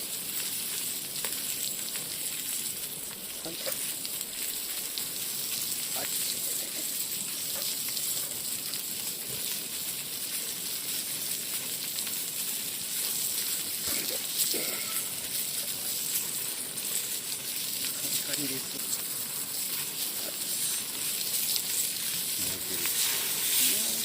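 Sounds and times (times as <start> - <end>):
food sizzling on griddle: 0.0 - 24.0.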